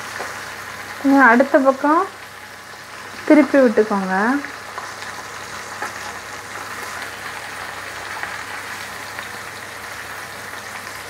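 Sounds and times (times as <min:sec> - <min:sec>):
fish deep-frying in oil: 0:00.0 - 0:11.0.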